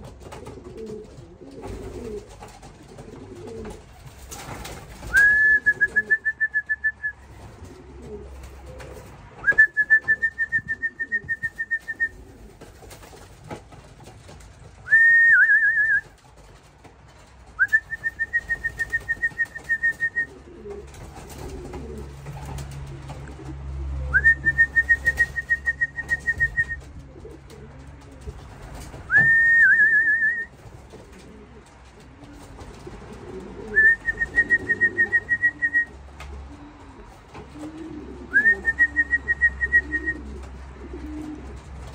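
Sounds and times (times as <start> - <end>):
pigeons cooing: 0.0 - 14.4, 17.7 - 29.3, 30.0 - 41.9.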